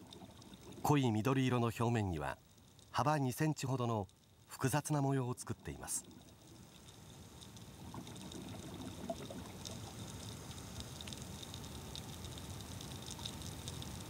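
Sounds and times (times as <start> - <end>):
underwater water noise: 0.0 - 14.0
faint underwater clicks: 1.5 - 4.5, 5.3 - 14.0.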